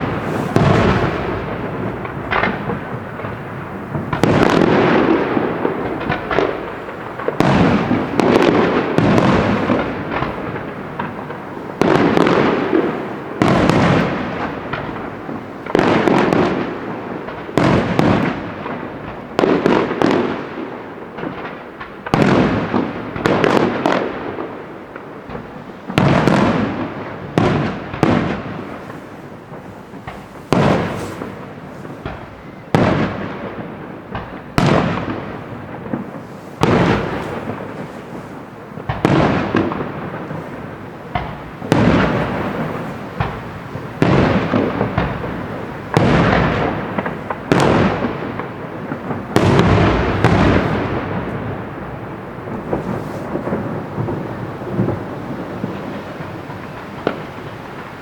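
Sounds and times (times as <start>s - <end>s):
firework shells bursting: 0.0s - 20.2s, 21.1s - 58.0s.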